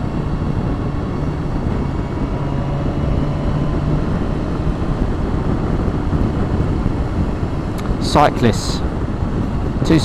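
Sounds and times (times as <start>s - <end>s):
motorcycle engine running: 0.0s - 9.8s
wind and road noise: 0.0s - 10.0s.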